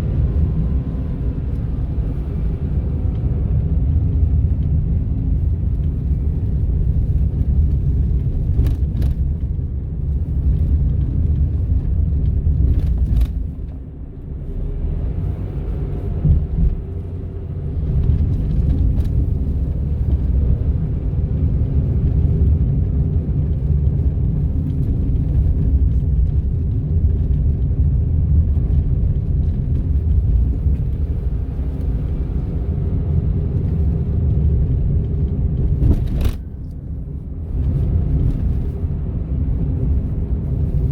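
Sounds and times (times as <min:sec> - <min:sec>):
car cabin road rumble: 0:00.0 - 0:40.9.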